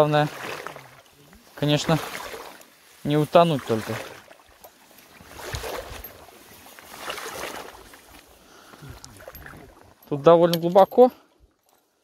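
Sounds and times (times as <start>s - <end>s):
water swishing against legs: 0.0s - 10.8s.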